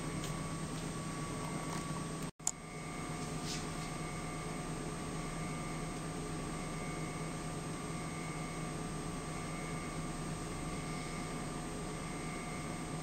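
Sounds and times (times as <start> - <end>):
faint steady tones: 0.0 - 13.0
room hiss and low hum: 0.0 - 13.0.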